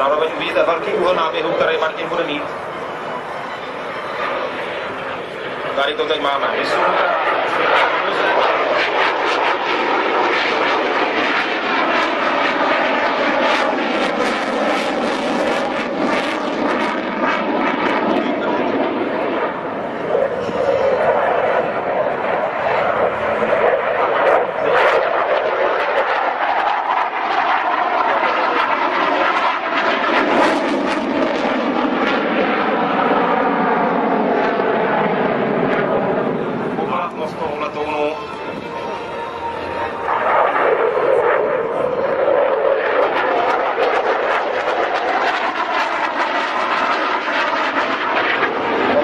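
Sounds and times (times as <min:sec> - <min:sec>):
jet engine flyby: 0:00.0 - 0:49.0.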